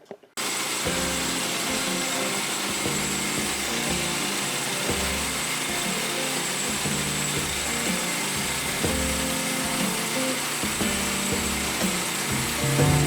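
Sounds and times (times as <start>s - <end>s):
band sawmill cutting a log: 0.4s - 13.0s
background music: 0.8s - 13.0s.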